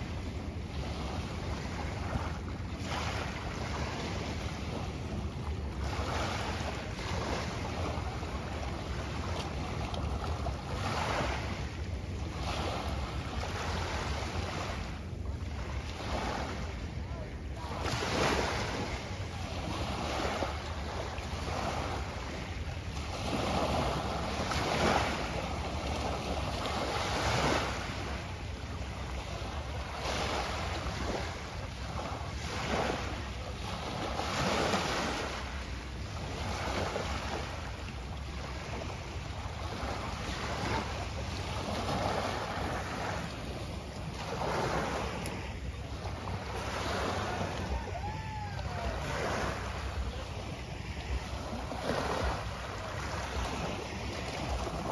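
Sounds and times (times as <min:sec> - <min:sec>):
small waves breaking on shore: 0:00.0 - 0:54.9
wind rumble on microphone: 0:00.0 - 0:54.9.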